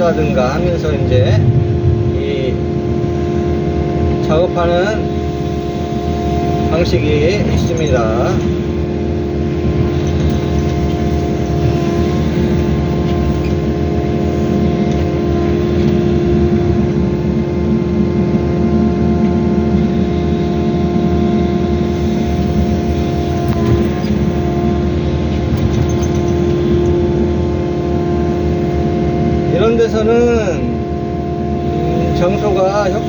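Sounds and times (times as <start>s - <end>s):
diesel engine running: 0.0s - 33.0s
hydraulic whine: 0.0s - 33.0s.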